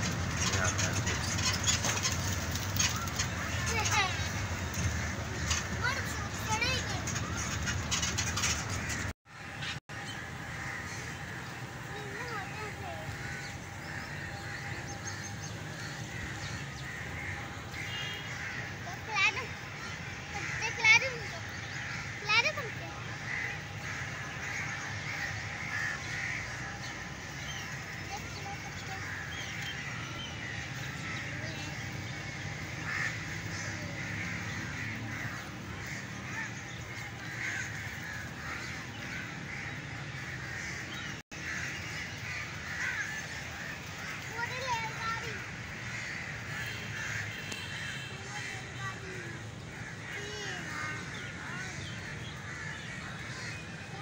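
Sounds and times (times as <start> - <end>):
outdoor background noise: 0.0 - 54.0
crows cawing: 0.1 - 54.0.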